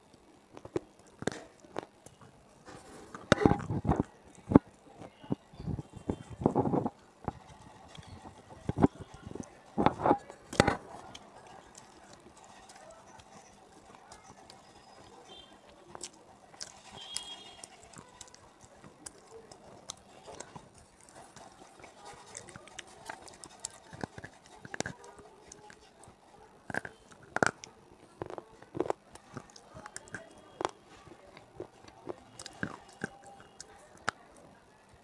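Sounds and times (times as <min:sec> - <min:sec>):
mouth clicks: 0:03.2 - 0:34.5
person chewing crunchy food: 0:05.9 - 0:34.2.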